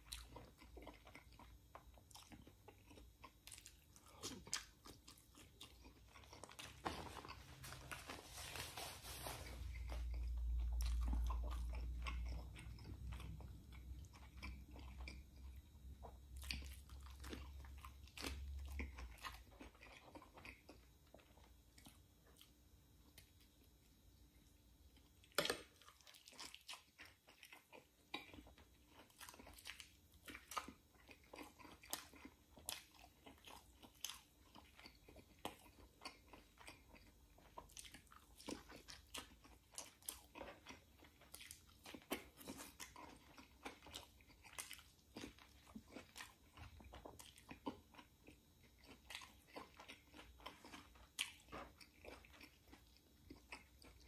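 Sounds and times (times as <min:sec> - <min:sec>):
person chewing chicken: 0:00.0 - 0:54.0.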